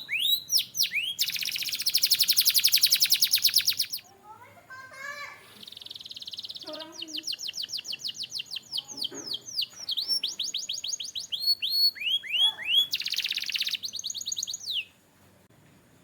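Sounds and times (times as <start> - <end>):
canary singing trills: 0.0 - 4.3, 5.6 - 15.0.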